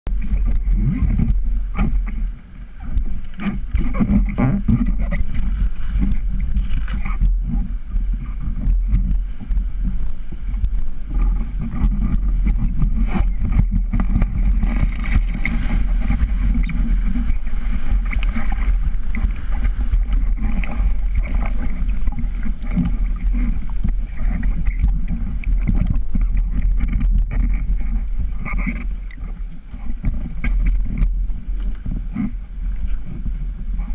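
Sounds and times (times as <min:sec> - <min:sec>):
wind on the microphone: 0:00.0 - 0:33.9
rushing river water: 0:00.1 - 0:33.9.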